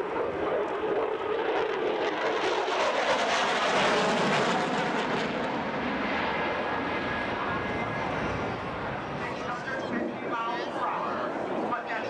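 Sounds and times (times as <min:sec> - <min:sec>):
jet roaring in afterburner: 0:00.0 - 0:11.7.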